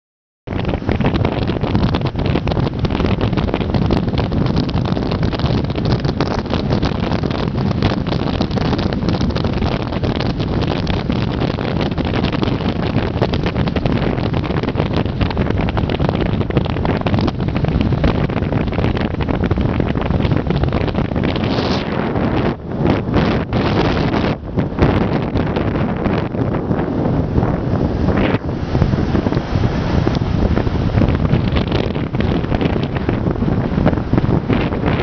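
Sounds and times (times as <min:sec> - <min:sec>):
vehicle road and engine noise: 0:00.5 - 0:35.0
wind buffeting microphone: 0:00.5 - 0:35.0.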